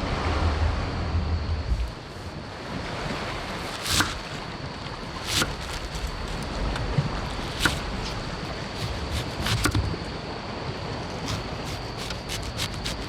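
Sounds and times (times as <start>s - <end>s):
sea surf: 0.0s - 13.0s.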